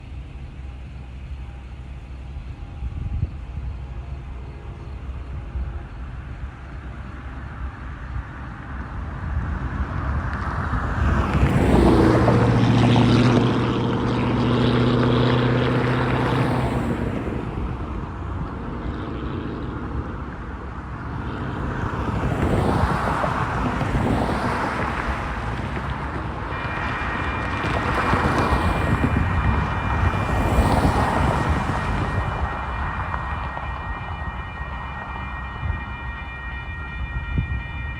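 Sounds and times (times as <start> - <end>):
road traffic passing: 0.0 - 37.9
vehicle engine droning: 0.0 - 37.9.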